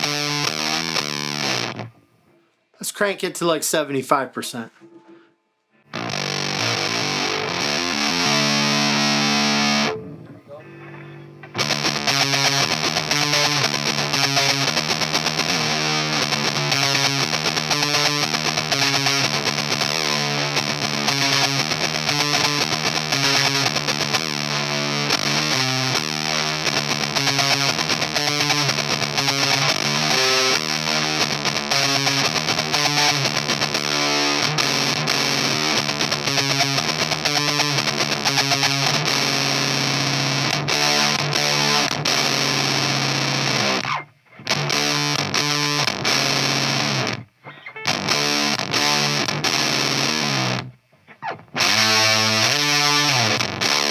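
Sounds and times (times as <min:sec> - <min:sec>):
fuzzed electric guitar riff: 0:00.0 - 0:02.1, 0:05.8 - 0:53.9.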